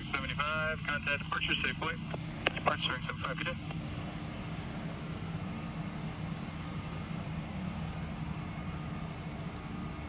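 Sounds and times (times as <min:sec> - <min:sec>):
faint high whine: 0:00.0 - 0:10.0
jet engines rumbling: 0:00.0 - 0:10.0.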